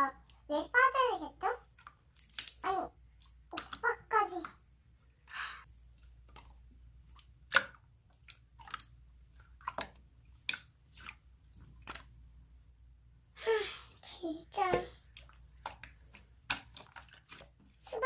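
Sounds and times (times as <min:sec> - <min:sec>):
slime squishing: 0:00.0 - 0:12.5, 0:14.0 - 0:18.0.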